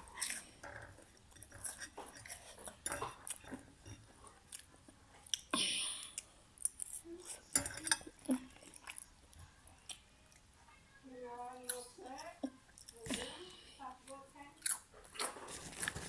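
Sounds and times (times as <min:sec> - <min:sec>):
person chewing food: 0:00.0 - 0:10.5, 0:11.6 - 0:13.6, 0:14.6 - 0:16.0.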